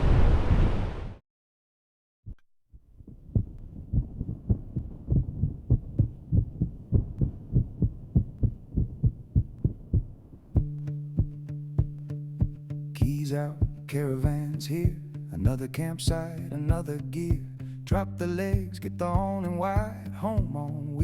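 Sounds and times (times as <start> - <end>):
steady thumping beat: 3.1 - 20.6.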